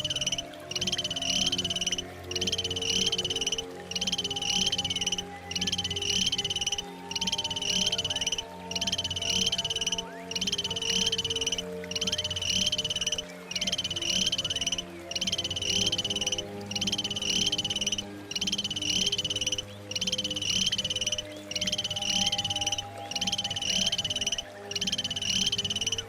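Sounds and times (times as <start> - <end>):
background music with sustained notes: 0.0 - 26.0.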